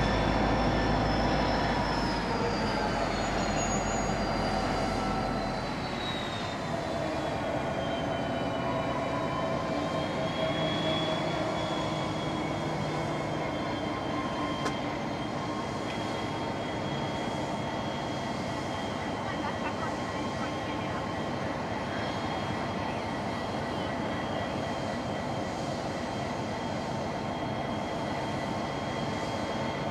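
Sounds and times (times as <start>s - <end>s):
locomotive engines rumbling: 0.0s - 29.9s
train brake squeal: 0.0s - 29.9s.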